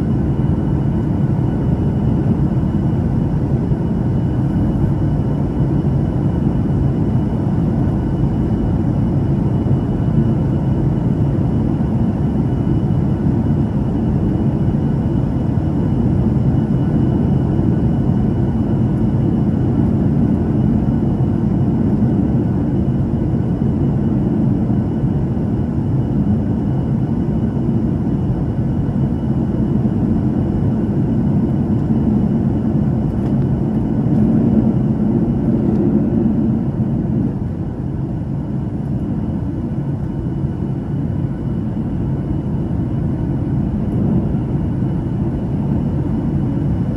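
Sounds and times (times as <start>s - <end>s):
jet engines and rushing air: 0.0s - 46.9s.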